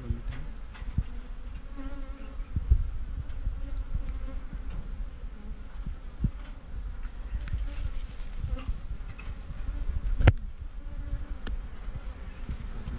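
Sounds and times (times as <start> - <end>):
bee swarm buzzing: 0.0 - 12.9
low thumps: 0.0 - 12.9.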